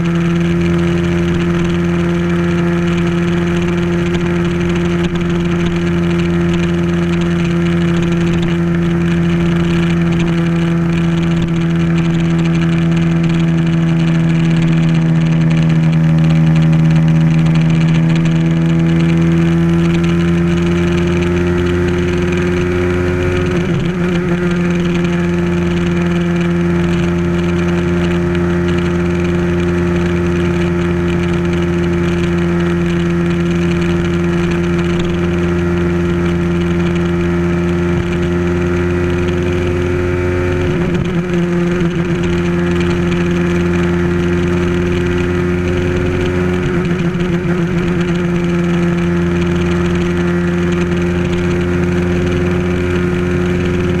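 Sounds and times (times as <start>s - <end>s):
motorcycle engine cruising: 0.0s - 54.0s
wind and road rush: 0.0s - 54.0s.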